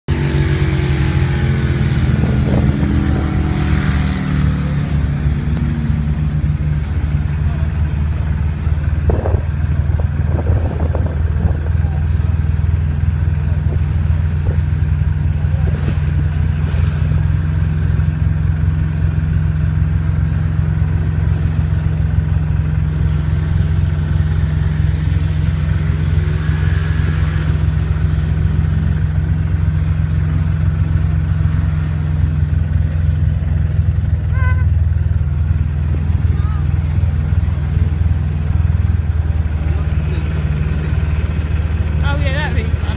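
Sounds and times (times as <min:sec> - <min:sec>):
quad bike engine running: 0:00.1 - 0:42.9.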